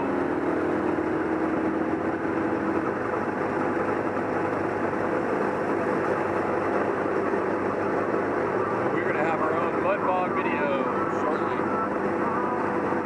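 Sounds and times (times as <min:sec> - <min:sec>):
diesel engine running: 0:00.0 - 0:13.0
vehicle driving through water: 0:00.0 - 0:13.0.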